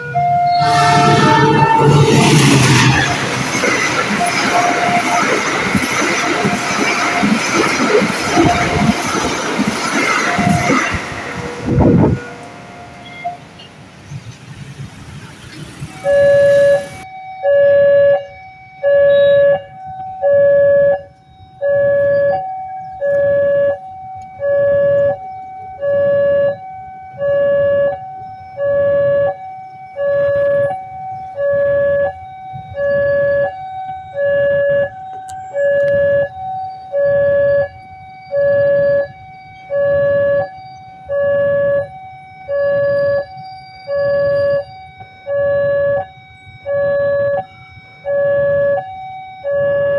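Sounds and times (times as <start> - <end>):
level crossing alarm tone: 0.0 - 13.6, 15.8 - 49.9.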